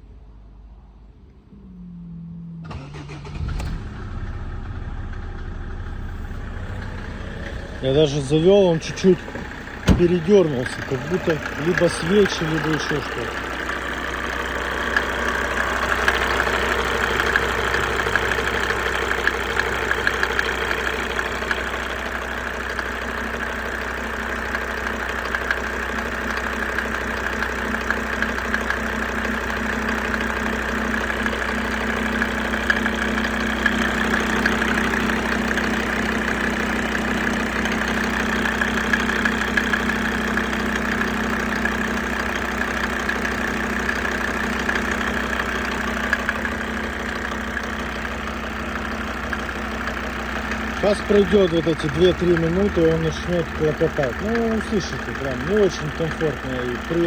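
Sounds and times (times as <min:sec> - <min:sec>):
diesel engine idling with clatter: 0:01.7 - 0:57.0.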